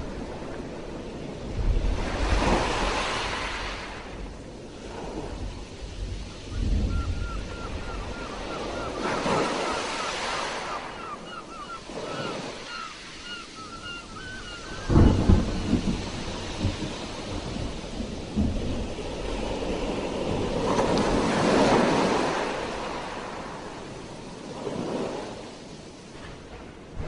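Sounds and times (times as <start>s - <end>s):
sea waves washing on shore: 0.0s - 27.0s.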